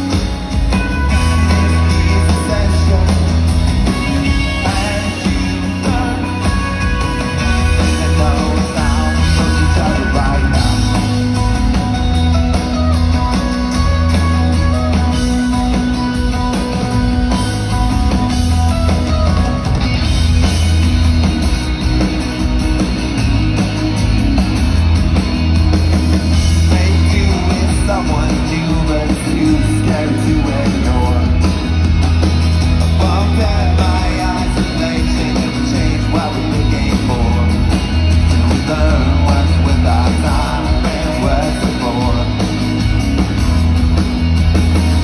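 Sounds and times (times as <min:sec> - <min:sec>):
rock band playing live: 0:00.0 - 0:45.0.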